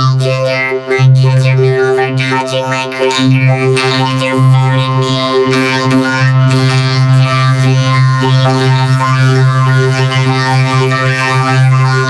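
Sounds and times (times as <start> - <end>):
vocoded voices buzzing drone: 0.0 - 12.0.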